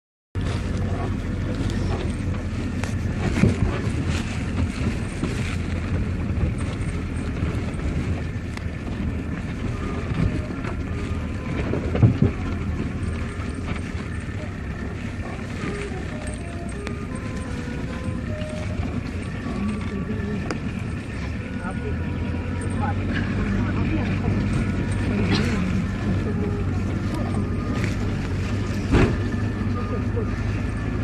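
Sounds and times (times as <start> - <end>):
vehicle rumble off-road: 0.4 - 31.0.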